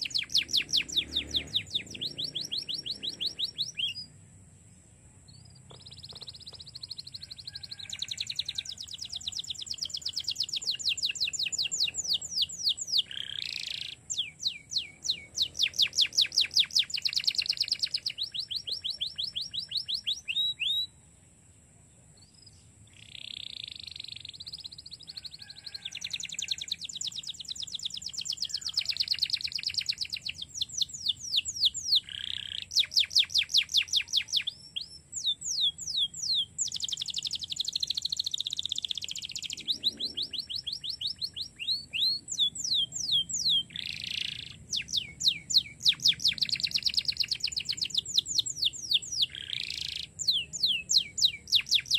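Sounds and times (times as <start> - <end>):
canary singing trills: 0.0 - 4.3, 5.2 - 21.1, 22.2 - 51.9.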